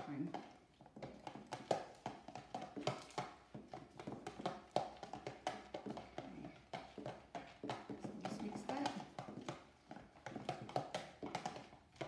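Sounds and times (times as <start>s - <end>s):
wet stirring: 0.0s - 12.0s
whisk clicking against plastic tub: 0.0s - 12.0s.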